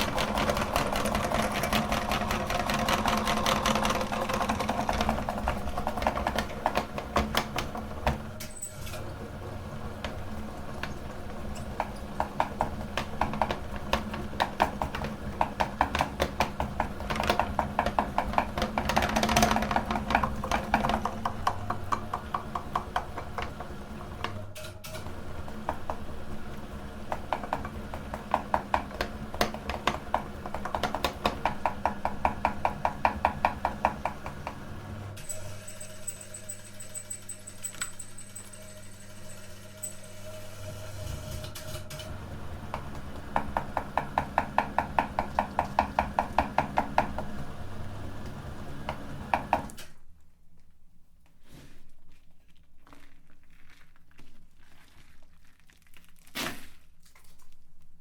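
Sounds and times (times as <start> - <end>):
meat grinder clicking and humming: 0.0 - 49.8.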